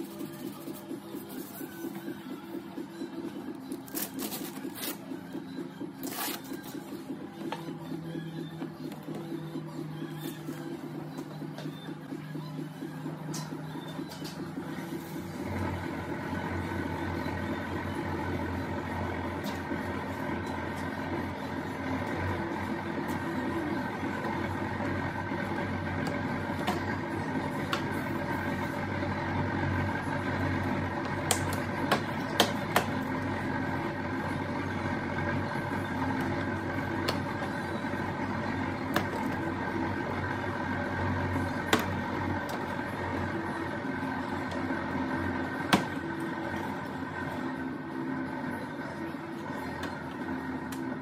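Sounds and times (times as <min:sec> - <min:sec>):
steady machine hum: 0:00.0 - 0:51.0.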